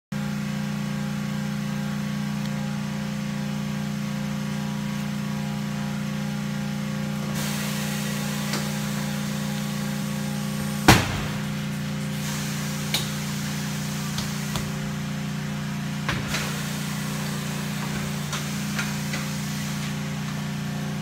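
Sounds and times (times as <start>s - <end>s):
electric machine hum: 0.2s - 21.0s.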